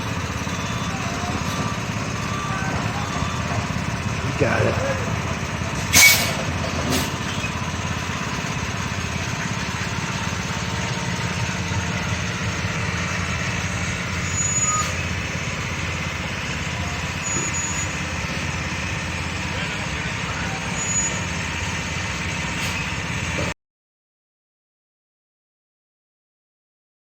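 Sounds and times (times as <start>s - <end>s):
vehicle engine idling: 0.0s - 23.5s.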